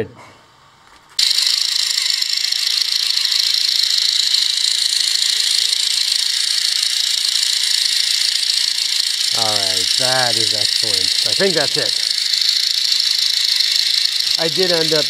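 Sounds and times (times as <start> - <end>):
motor driving plastic gears: 1.2 - 15.0.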